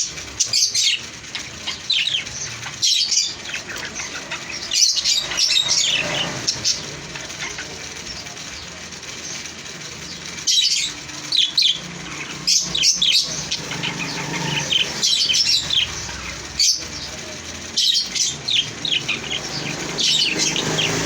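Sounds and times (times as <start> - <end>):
parrots chirping: 0.0 - 21.0.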